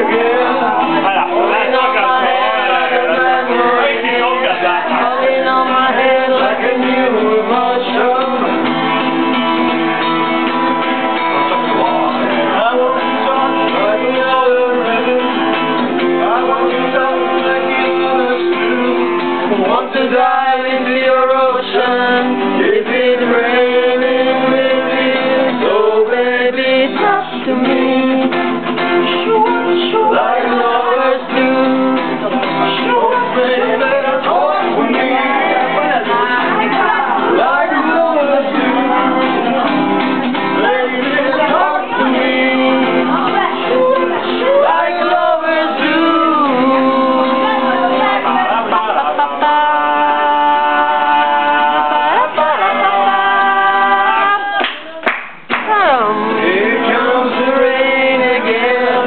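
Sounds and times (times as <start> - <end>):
man singing: 0.0 - 54.9, 55.7 - 59.0
strummed guitar: 0.0 - 59.0.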